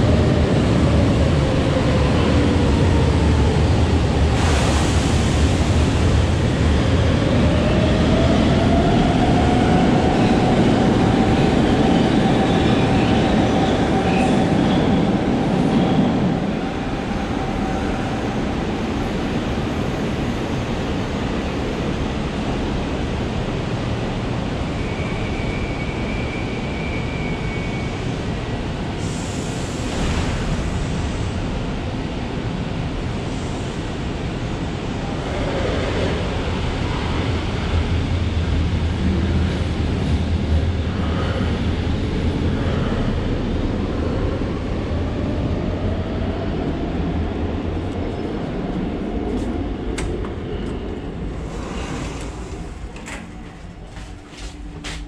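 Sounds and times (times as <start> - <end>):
subway train rumble and motor whine: 0.0 - 55.0.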